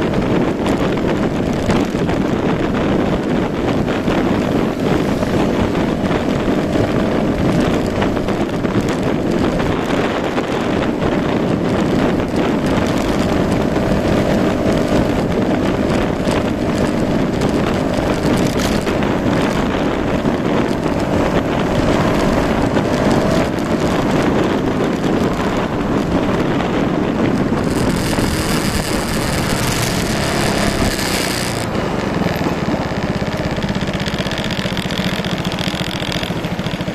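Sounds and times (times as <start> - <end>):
scooter engine running: 0.0 - 36.9
wind buffeting microphone: 0.0 - 36.9.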